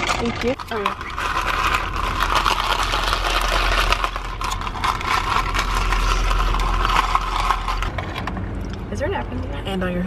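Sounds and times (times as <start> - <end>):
straw stirring ice in plastic cup: 0.0 - 8.4.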